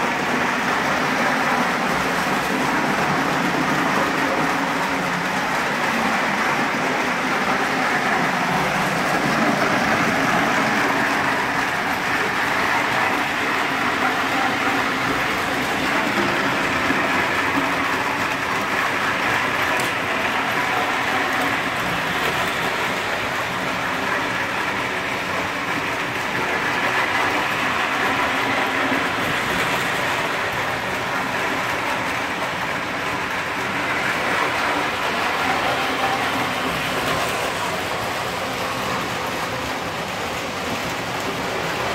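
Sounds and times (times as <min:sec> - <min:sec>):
toy trains humming and rattling: 0:00.0 - 0:41.9.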